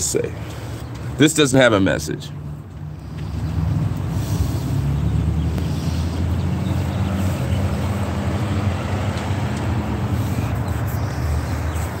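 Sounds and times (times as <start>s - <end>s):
road traffic rumble: 0.0s - 12.0s
vehicle engine hum: 0.0s - 12.0s.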